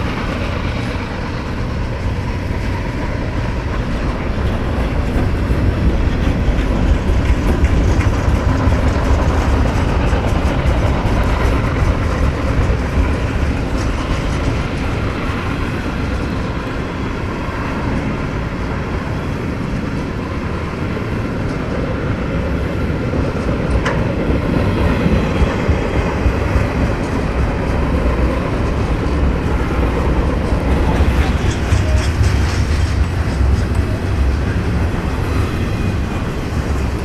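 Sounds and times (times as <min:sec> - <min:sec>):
train wheels rolling on rails: 0:00.0 - 0:37.0.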